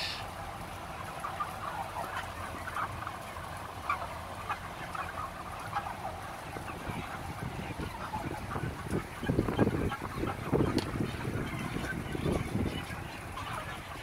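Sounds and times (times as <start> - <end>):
chickens calling: 0.0 - 14.0.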